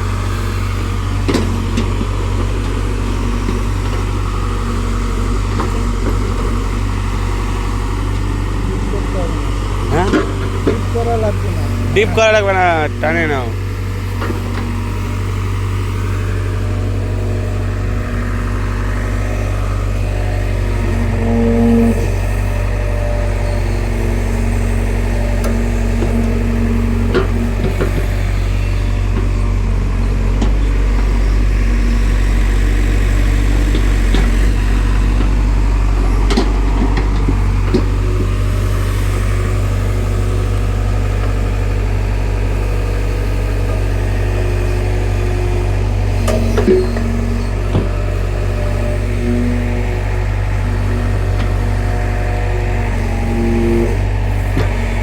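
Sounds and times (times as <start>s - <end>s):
diesel engine running: 0.0s - 55.0s
hydraulic whine: 0.0s - 55.0s.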